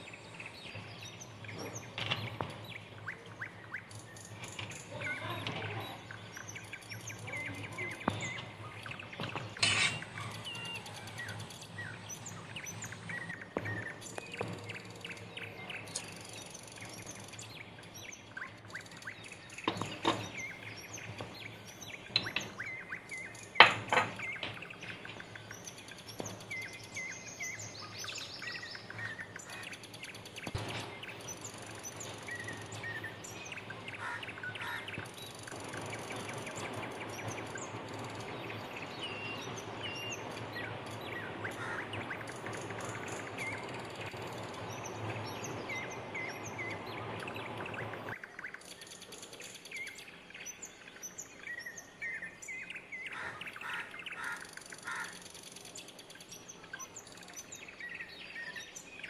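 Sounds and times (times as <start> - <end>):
small birds chirping: 0.0 - 59.0
steady background noise: 0.0 - 59.0.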